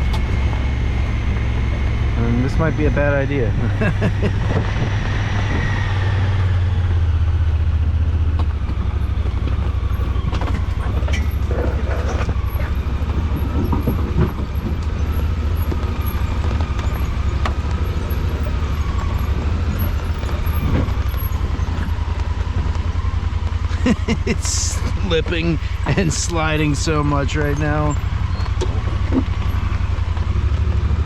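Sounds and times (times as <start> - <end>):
engine pulling under load: 0.0 - 31.0
faint whine: 0.0 - 31.0
tires slipping in mud: 0.0 - 31.0.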